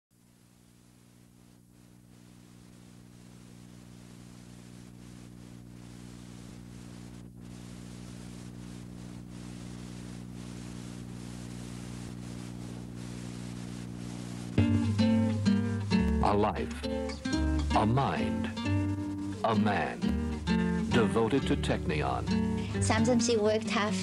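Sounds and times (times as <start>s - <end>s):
low electrical hum: 0.1s - 24.0s
tape hiss: 0.1s - 24.0s.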